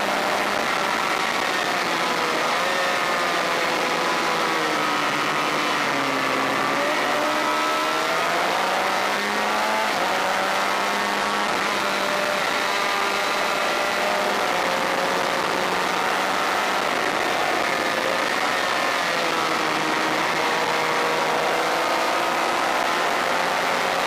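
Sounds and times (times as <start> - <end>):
racing motorcycle engine revving: 0.0 - 24.0.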